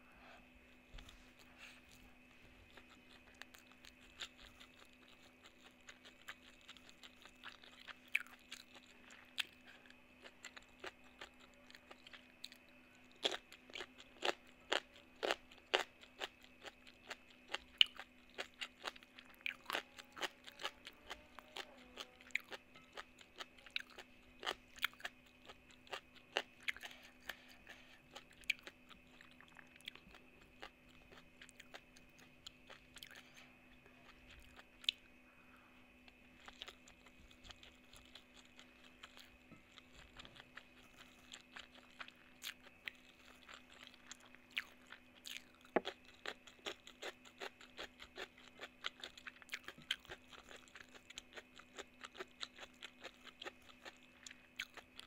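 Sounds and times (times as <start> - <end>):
faint steady hum: 0.0 - 55.0
person chewing crunchy food: 0.7 - 35.2, 36.0 - 55.0.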